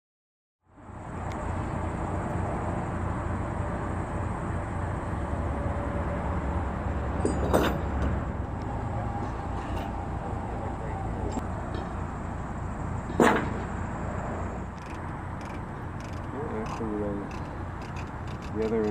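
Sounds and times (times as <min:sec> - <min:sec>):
low engine rumble: 0:00.6 - 0:18.9.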